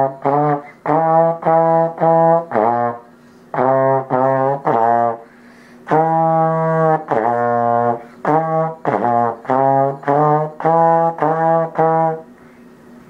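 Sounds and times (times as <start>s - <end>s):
trombone notes: 0.0s - 12.4s.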